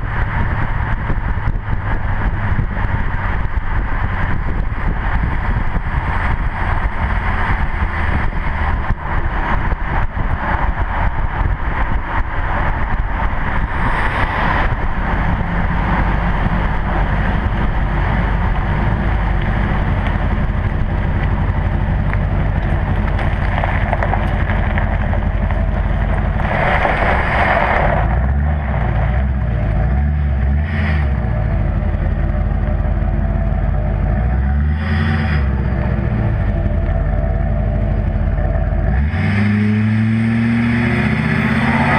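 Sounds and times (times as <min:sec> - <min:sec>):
diesel truck exhaust drone: 0:00.0 - 0:41.9.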